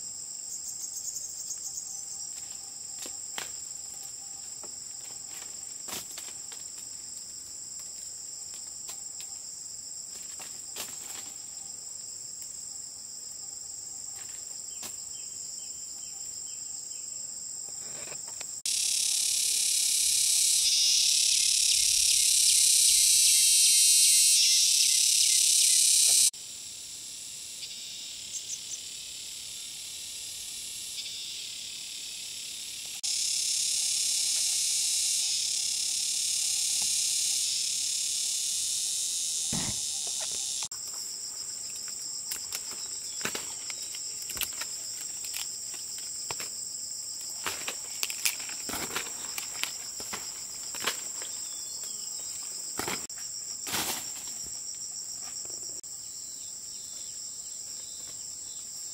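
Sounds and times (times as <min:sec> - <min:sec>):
insects droning: 0:00.0 - 0:58.9
thin insect whine: 0:00.0 - 0:58.9.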